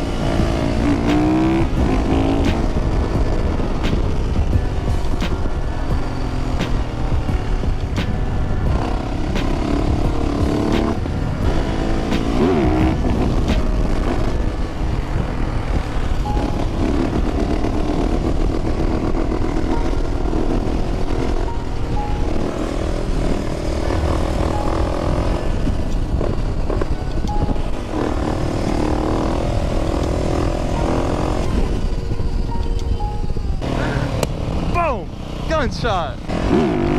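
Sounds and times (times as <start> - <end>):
motorcycle engine running: 0.0 - 36.9
wind and road noise: 0.0 - 36.9.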